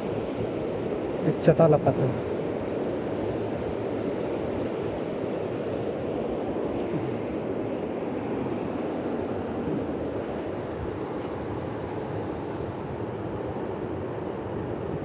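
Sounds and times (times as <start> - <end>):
river water rushing: 0.0 - 14.8.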